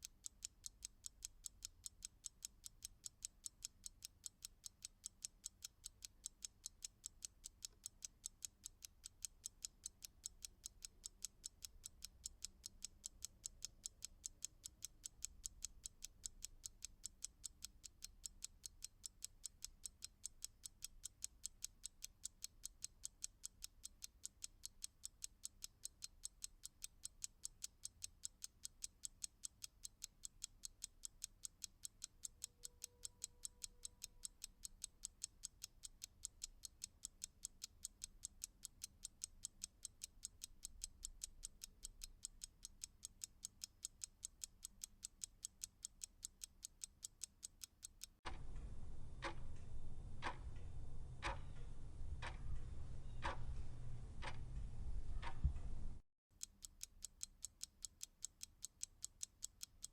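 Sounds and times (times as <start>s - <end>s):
clock ticking: 0.0s - 48.6s, 49.2s - 55.7s, 56.4s - 59.9s.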